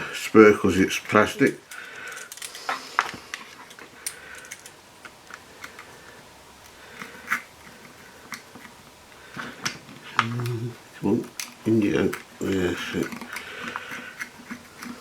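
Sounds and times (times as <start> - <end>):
plastic parts clicking: 1.3 - 6.0, 6.6 - 15.0.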